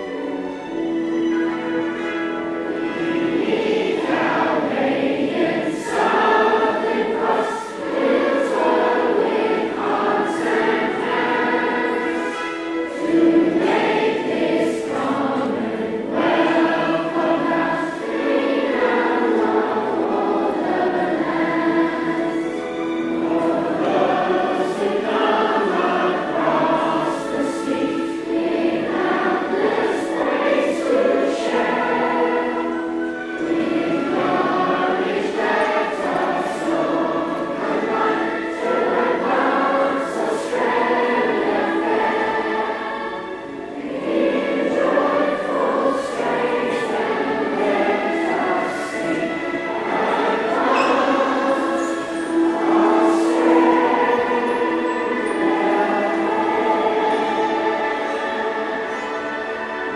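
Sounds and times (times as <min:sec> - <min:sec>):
choir singing slow song: 0:00.0 - 0:59.9.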